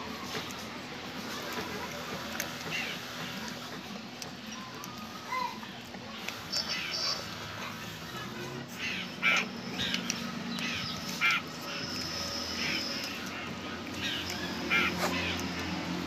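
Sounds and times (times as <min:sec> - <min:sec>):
birds harsh calls: 0:01.2 - 0:16.0.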